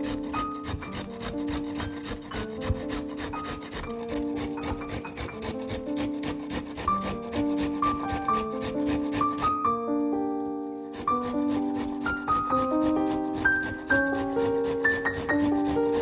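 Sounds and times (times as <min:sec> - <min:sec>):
vegetables grated on grater: 0:00.0 - 0:09.6, 0:10.8 - 0:16.0
soft melodic background music: 0:00.0 - 0:16.0.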